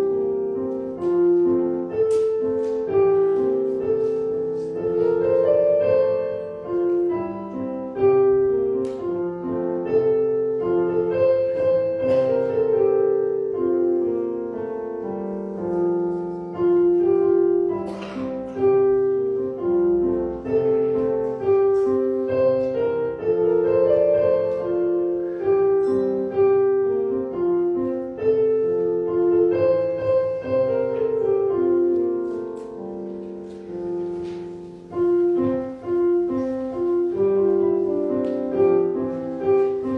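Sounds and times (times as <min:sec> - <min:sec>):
slow piano melody: 0:00.0 - 0:39.9.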